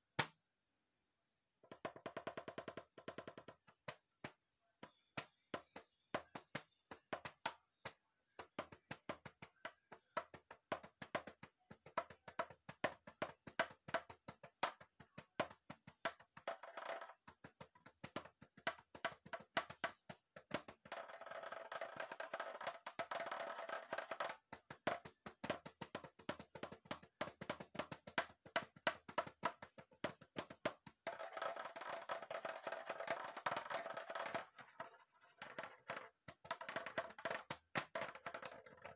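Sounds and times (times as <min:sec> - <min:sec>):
wood-block-like taps: 0:01.6 - 0:38.9.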